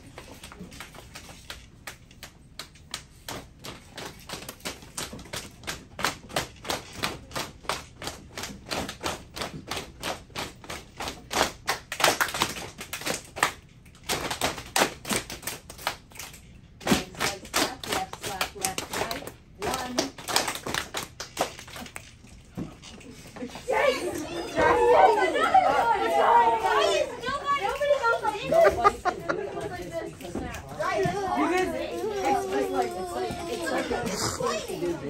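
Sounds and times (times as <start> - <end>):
children patting and clapping: 0.0 - 35.0.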